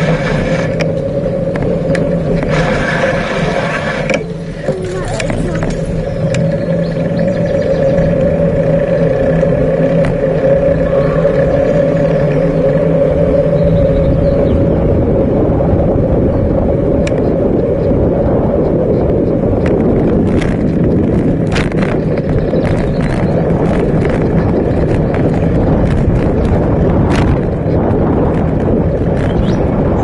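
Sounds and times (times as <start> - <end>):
bike clicks and rattles: 0.0 - 30.0
wind and road rumble: 0.0 - 30.0.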